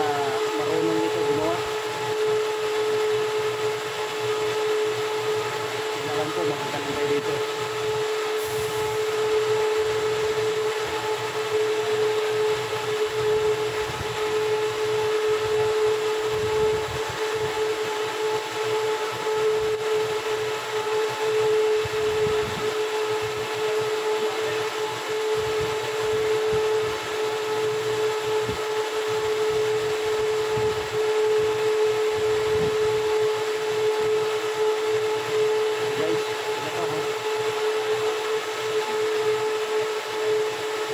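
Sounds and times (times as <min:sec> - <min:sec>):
machinery humming with whine: 0:00.0 - 0:40.9.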